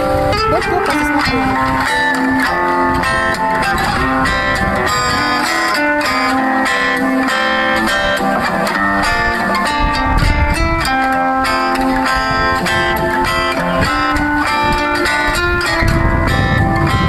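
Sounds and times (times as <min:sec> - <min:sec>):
background music with plucked guitar: 0:00.0 - 0:17.0.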